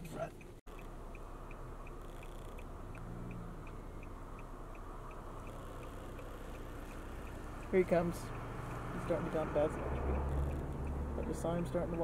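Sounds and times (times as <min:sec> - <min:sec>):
vehicle idling: 0:00.0 - 0:12.0
faint high ticking: 0:00.3 - 0:12.0.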